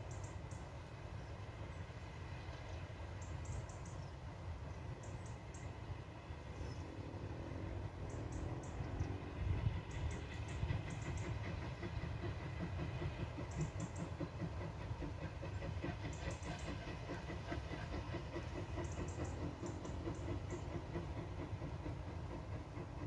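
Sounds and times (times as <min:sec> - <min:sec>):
distant steam locomotive exhaust beats: 0:00.0 - 0:23.0.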